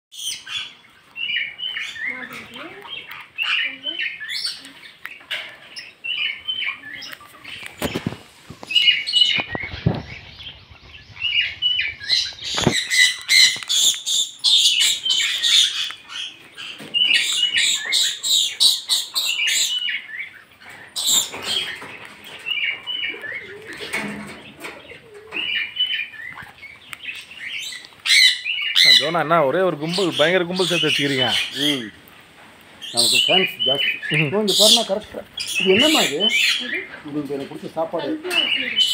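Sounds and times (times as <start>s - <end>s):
parrots chirping and screeching: 0.1s - 38.9s.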